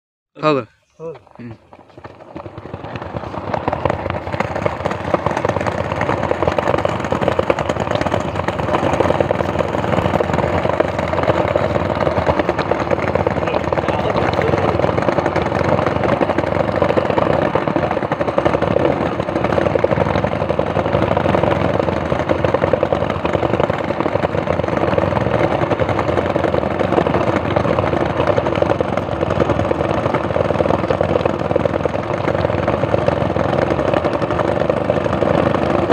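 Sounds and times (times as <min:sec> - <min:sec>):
skateboard wheels rolling on pavers: 0:01.1 - 0:35.9.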